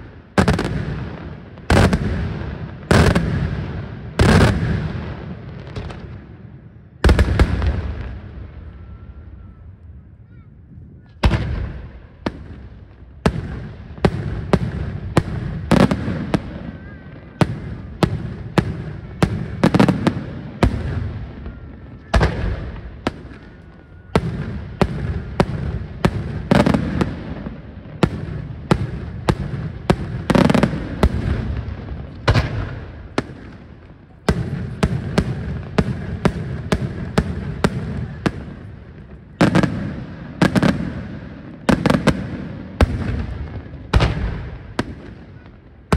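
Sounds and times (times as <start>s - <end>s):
fireworks bangs: 0.0s - 10.4s, 11.0s - 45.9s.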